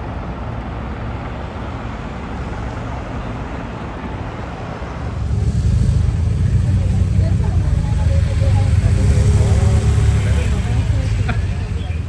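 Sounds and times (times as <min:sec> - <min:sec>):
deep engine rumble: 0:00.0 - 0:12.0
traffic noise: 0:00.0 - 0:12.0.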